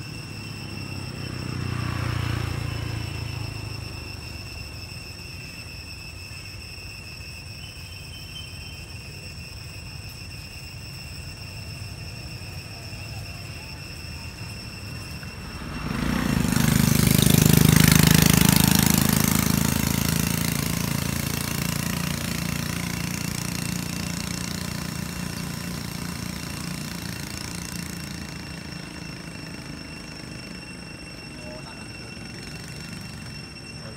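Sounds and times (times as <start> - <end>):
vehicle engine passing by: 0.0 - 5.6, 11.8 - 33.9.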